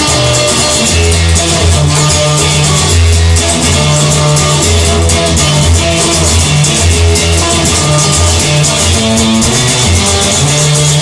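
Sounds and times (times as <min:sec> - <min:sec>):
bass line: 0:00.0 - 0:11.0
drum beat: 0:00.0 - 0:11.0
guitar: 0:00.0 - 0:11.0
rock music: 0:00.0 - 0:11.0.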